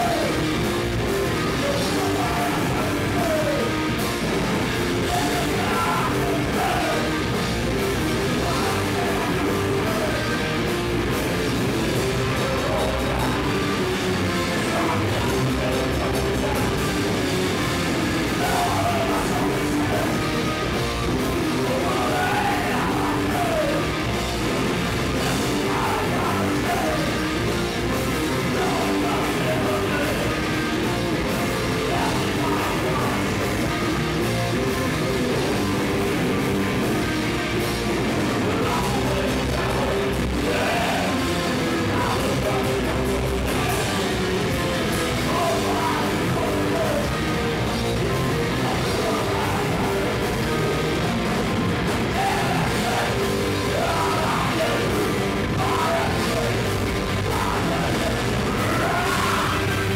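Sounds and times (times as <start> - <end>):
shouted vocals: 0.0 - 33.8, 38.0 - 59.9
punk band playing live: 0.0 - 59.9.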